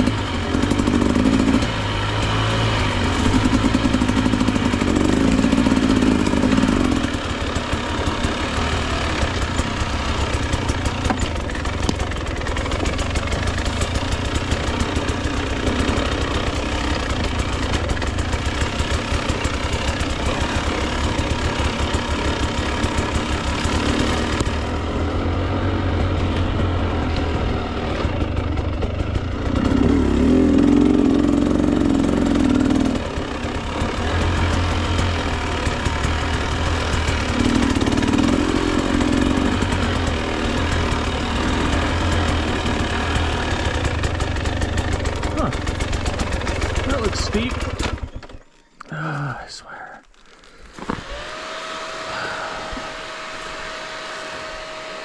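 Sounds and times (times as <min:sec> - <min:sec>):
two-stroke dirt bike engine revving: 0:00.0 - 0:49.1, 0:50.7 - 0:55.0.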